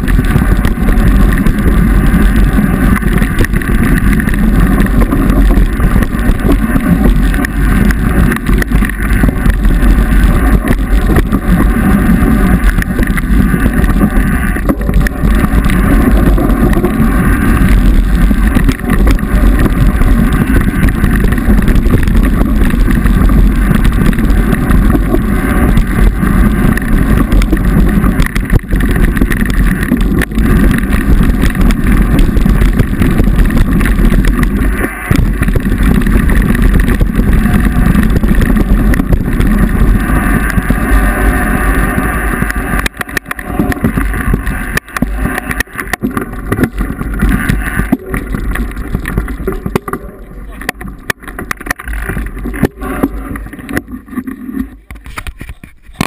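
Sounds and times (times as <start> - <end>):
wind buffeting microphone: 0.0 - 53.9
tyres rumbling on dirt trail: 0.0 - 56.0.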